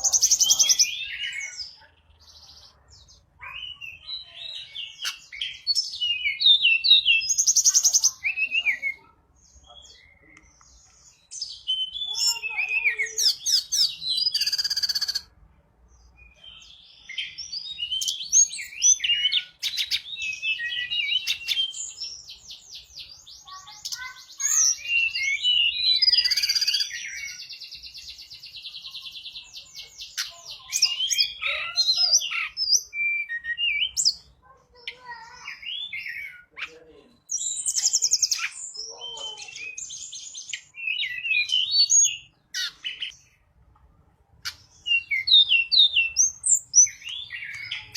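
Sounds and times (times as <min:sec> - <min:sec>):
songbird singing with trills: 0:00.0 - 0:15.4, 0:16.0 - 0:43.5, 0:44.3 - 0:47.9.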